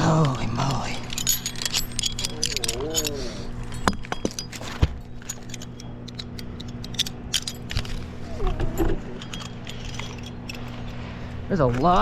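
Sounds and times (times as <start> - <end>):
metal climbing hardware clinking: 0.0 - 11.0
steady low hum: 0.0 - 12.0.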